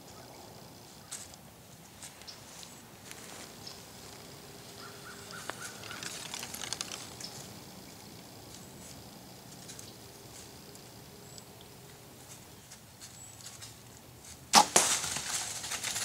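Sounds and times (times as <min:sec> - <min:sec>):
deer rustling dry leaves: 0:00.9 - 0:16.0
leaves crackling and crunching: 0:01.0 - 0:11.0, 0:11.8 - 0:16.0.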